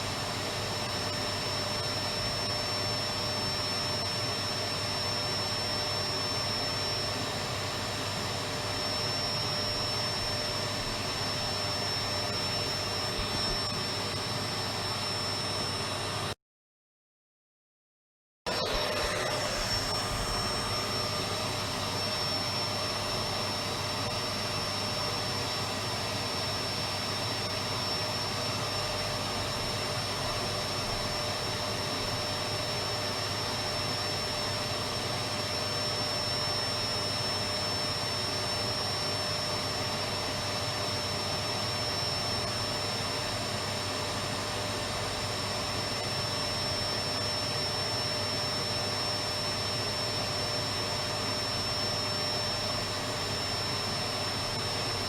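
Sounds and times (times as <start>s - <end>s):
vacuum cleaner running: 0.0s - 16.4s, 18.5s - 55.0s.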